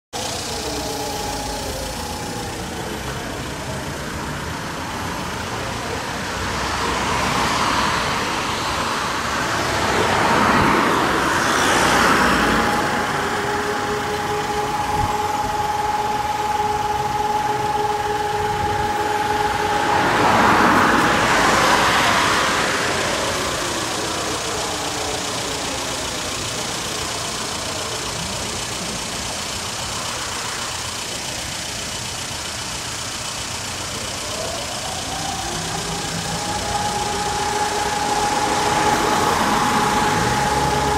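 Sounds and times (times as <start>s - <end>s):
vehicles passing: 0.2s - 40.9s
warning siren howling: 0.2s - 40.9s.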